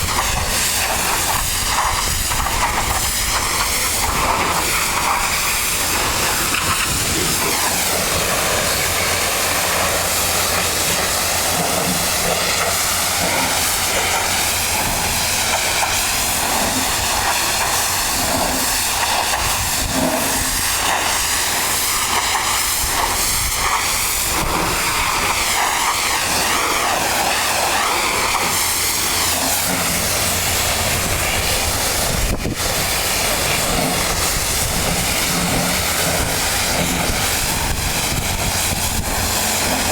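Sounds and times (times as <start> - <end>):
pressure washer spraying: 0.0 - 39.9.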